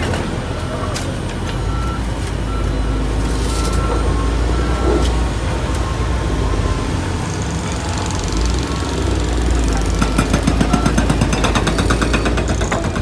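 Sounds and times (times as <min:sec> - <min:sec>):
diesel engine running: 0:00.0 - 0:13.0
reversing alarm beeping: 0:00.0 - 0:13.0.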